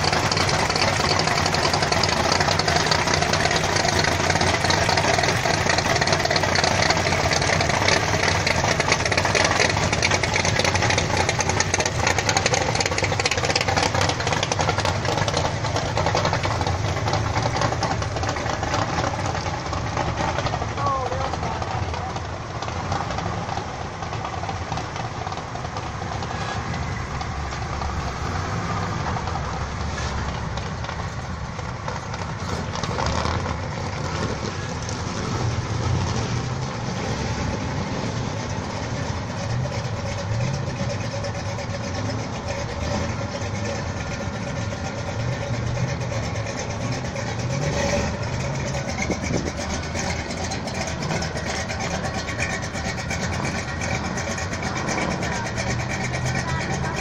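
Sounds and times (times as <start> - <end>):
car engines idling and pulling past: 0.0 - 57.0.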